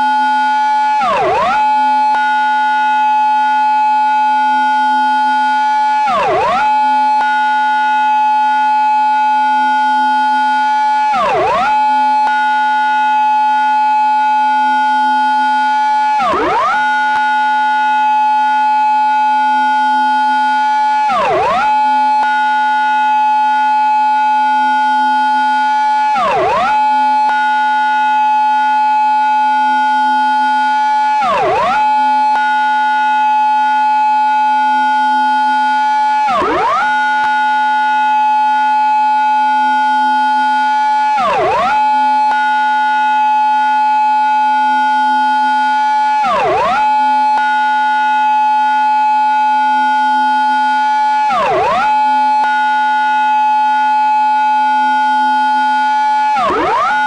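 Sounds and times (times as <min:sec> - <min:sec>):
police car siren: 0:00.0 - 0:57.0.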